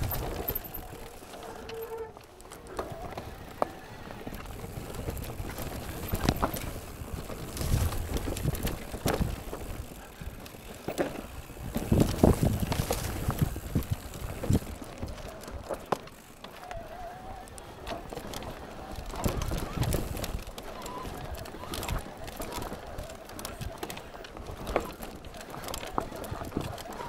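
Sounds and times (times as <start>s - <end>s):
bike knocking and rattling: 0.0s - 27.0s
bike tyres rumbling on trail: 0.0s - 27.0s.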